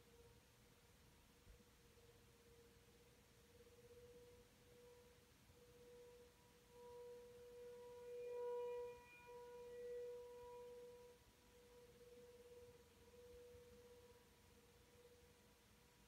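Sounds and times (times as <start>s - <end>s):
distant warning siren steady tone: 2.0s - 15.4s.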